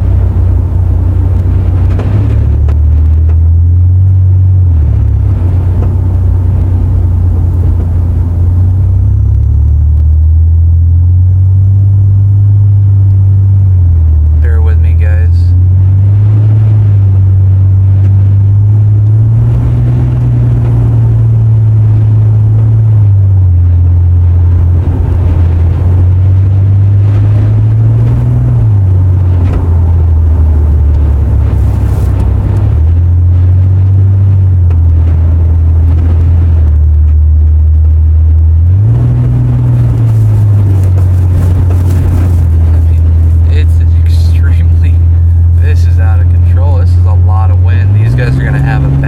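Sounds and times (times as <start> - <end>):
truck cab drone: 0.0 - 49.0.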